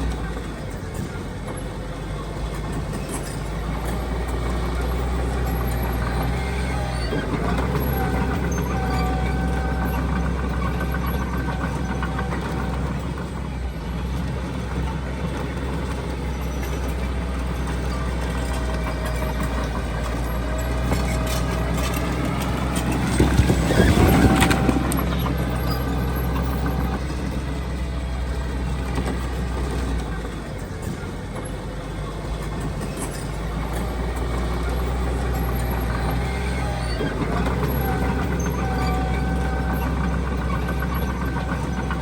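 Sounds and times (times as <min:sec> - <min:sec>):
clanking and rumbling: 0:00.0 - 0:42.0
heavy diesel machinery droning: 0:00.0 - 0:42.0.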